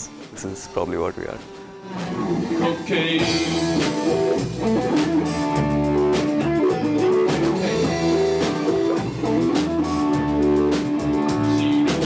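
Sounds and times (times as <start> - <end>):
drum kit steady beat: 0.0 - 12.0
electric guitar melody: 1.7 - 12.0.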